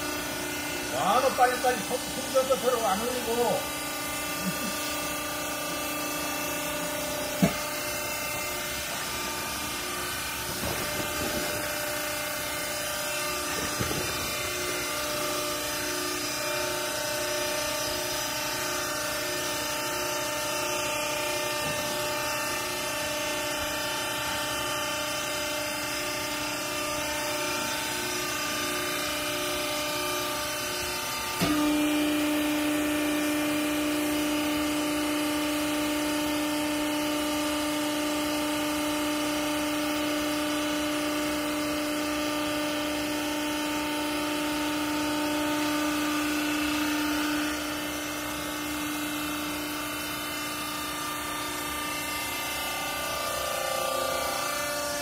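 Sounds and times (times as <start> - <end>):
hydraulic pump motor humming: 0.0 - 55.0.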